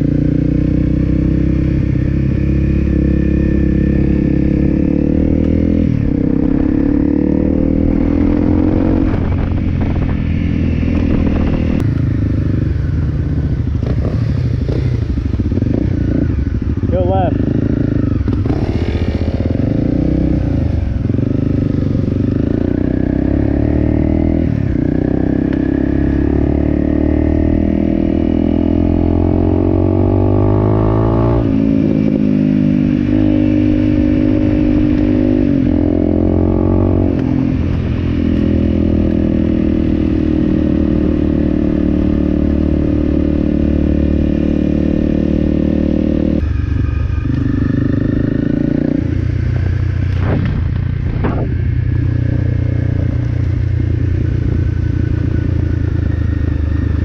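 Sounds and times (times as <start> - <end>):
motorcycle engine riding: 0.0 - 57.0.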